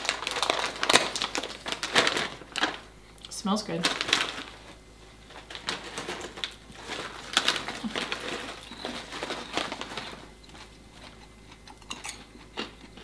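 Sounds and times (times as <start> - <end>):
plastic snack bag crinkling: 0.0 - 12.7.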